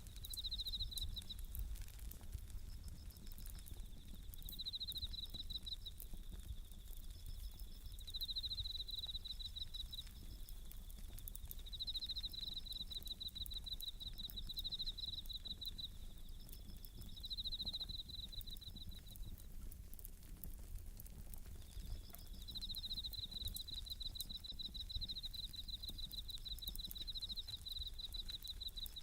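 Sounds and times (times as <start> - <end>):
higher insect chirp: 0.0 - 1.5, 2.9 - 19.3, 21.7 - 29.0
crickets chirring: 0.0 - 19.6, 21.3 - 29.0
wood fire crackling: 0.0 - 29.0.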